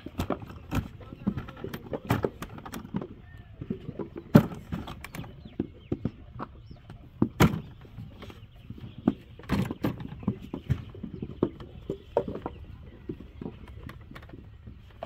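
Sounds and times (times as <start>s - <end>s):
knocks and thuds: 0.0s - 15.0s.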